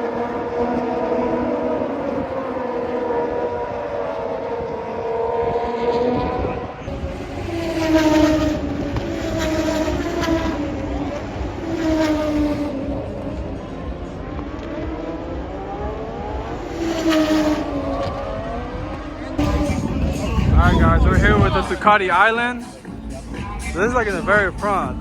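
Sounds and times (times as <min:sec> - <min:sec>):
racing motorcycle engines revving: 0:00.0 - 0:25.0.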